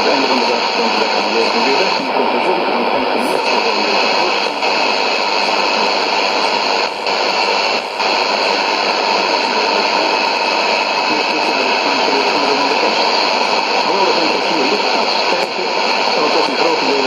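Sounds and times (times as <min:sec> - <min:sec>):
radio static hiss: 0:00.0 - 0:17.0
weak radio voice: 0:00.0 - 0:17.0.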